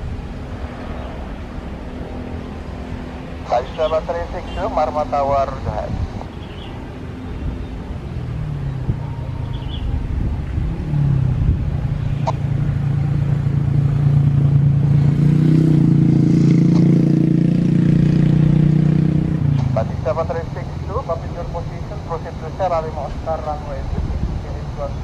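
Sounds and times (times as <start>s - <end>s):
motorcycle and car engines passing: 0.0s - 25.0s.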